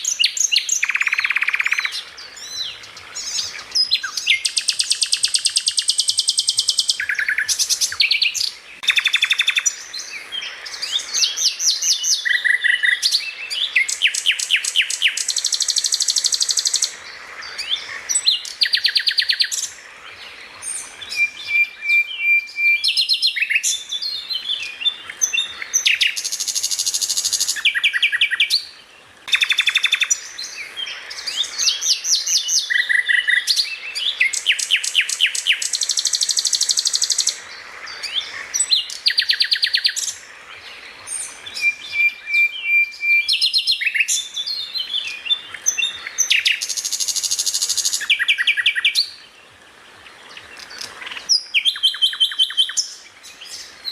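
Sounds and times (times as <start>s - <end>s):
songbird singing trills and whistles: 0.0s - 49.3s, 50.3s - 53.9s.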